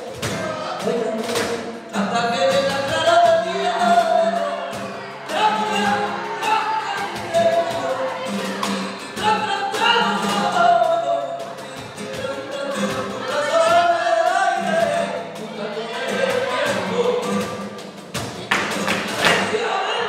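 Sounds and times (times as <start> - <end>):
sharp percussive strikes: 0.0 - 15.6, 16.2 - 19.6
person singing: 0.0 - 17.8, 18.5 - 20.0
flamenco guitar: 0.0 - 20.0.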